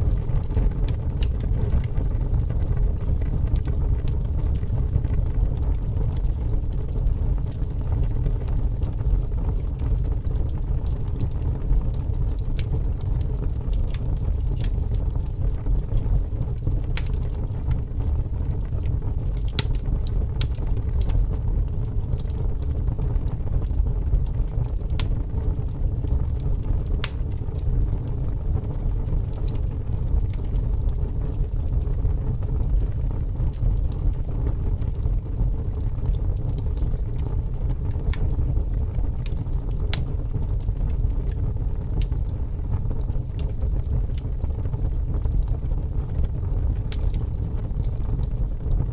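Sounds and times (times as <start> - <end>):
fire crackling: 0.0 - 48.9
fire rumbling: 0.0 - 48.9.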